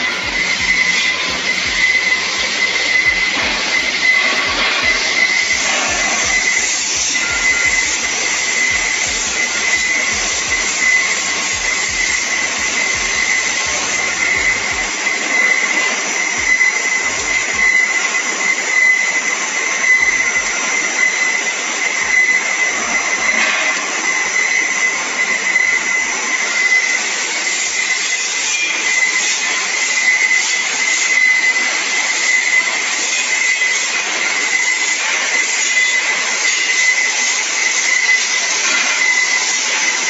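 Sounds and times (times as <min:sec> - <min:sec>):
wire winding machine hiss and whine: 0:00.0 - 0:40.0.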